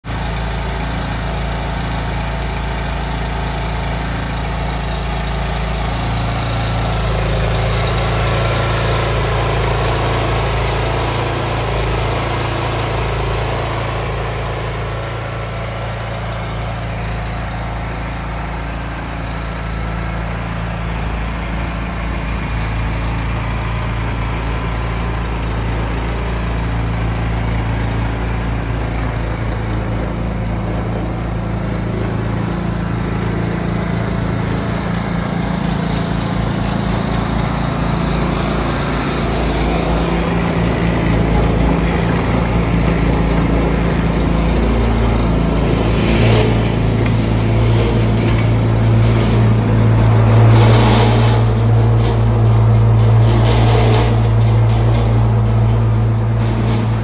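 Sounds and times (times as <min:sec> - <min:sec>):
gas engine running steadily: 0:00.0 - 0:57.0.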